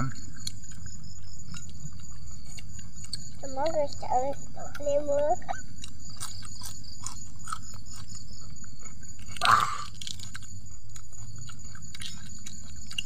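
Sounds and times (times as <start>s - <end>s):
chewing and crunching food: 0.0s - 13.0s.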